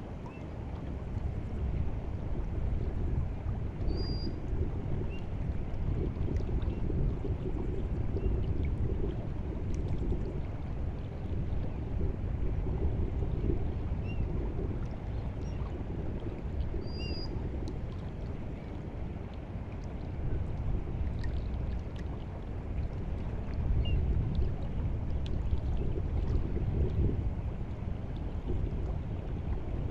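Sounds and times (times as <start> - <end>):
water lapping at shore: 0.0 - 29.9.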